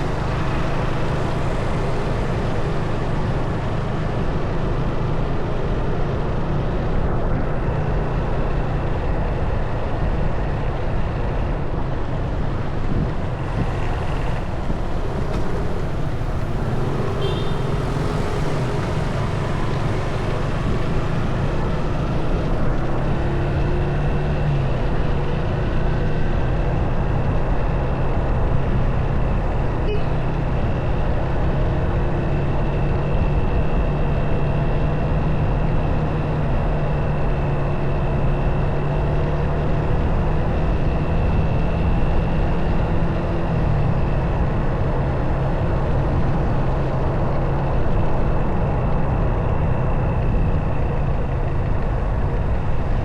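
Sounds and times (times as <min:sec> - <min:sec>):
motorcycle engine cruising: 0:00.0 - 0:53.0
road and wind noise: 0:00.0 - 0:53.0.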